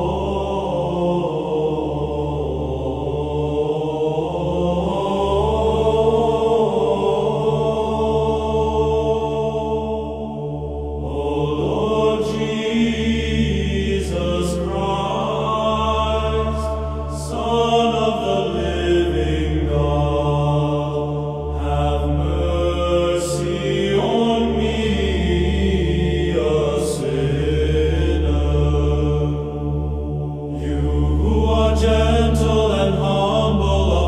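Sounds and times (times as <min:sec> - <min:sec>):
chant-like choral music: 0:00.0 - 0:34.0
low drone: 0:00.0 - 0:34.0.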